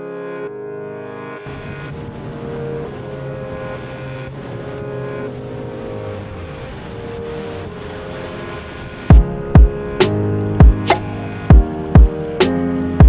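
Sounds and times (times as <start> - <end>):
outboard motor running: 1.5 - 12.4.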